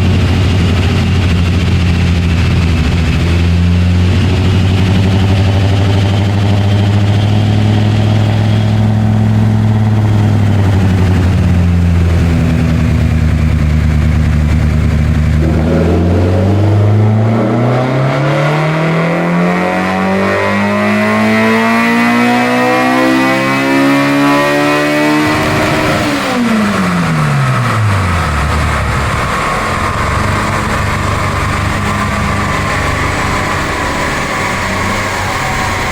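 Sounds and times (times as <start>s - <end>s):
car engine revving on a dyno: 0.0s - 35.9s.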